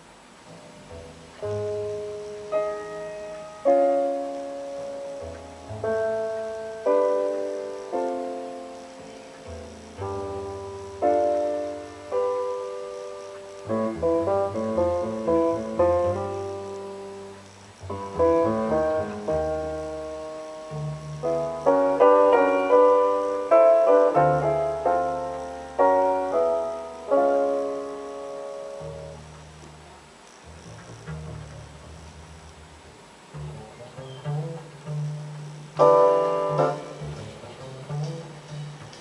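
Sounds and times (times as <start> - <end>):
solo piano over loudspeakers: 0.0 - 39.0.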